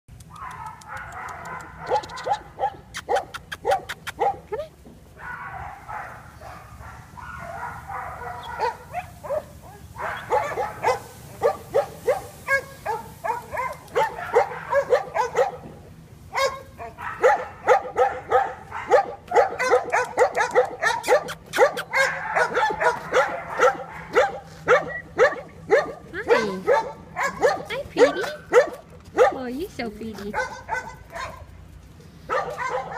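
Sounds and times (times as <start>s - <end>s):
dogs barking and yelping: 0.2s - 4.6s, 5.2s - 29.4s, 30.2s - 32.9s.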